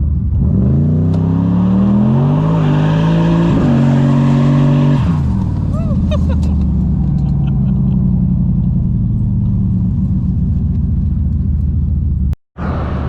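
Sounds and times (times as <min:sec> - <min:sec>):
engine drone at low rpm: 0:00.0 - 0:13.0.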